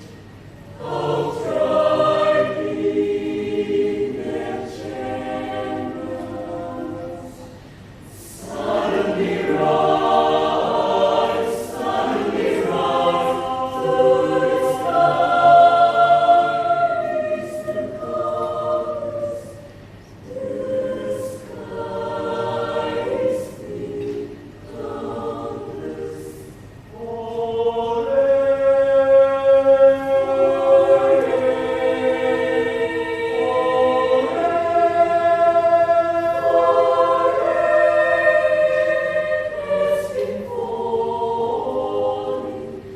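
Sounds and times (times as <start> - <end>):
youth choir singing in parts: 0.0 - 42.9.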